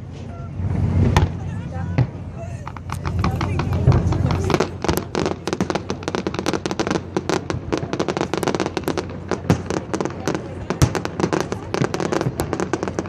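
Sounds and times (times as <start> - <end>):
fireworks cracking and popping: 0.2 - 13.0.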